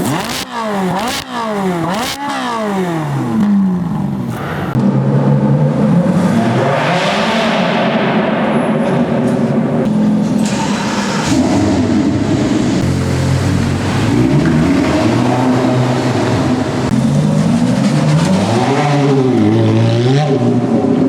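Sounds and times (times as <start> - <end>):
supercar engine revving: 0.0 - 21.0.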